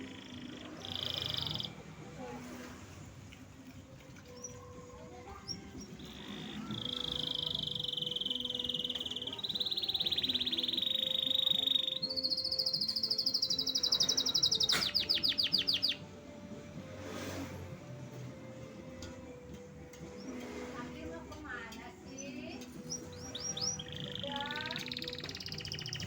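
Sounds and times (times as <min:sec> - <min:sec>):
canary trilling song: 0:00.0 - 0:26.0.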